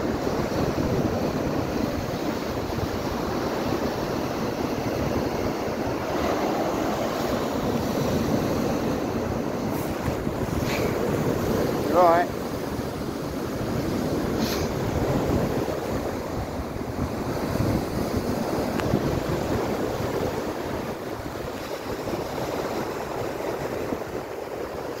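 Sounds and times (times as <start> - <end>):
surf washing under a pier: 0.0 - 25.0.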